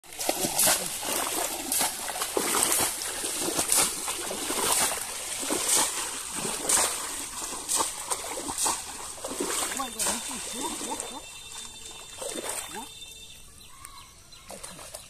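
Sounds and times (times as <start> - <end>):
water splashing and sloshing: 0.0 - 13.3, 14.4 - 15.0.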